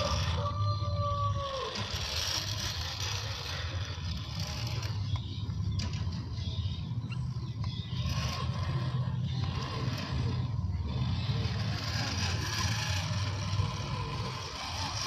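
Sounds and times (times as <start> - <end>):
small electric motor and gears running: 0.0 - 15.0.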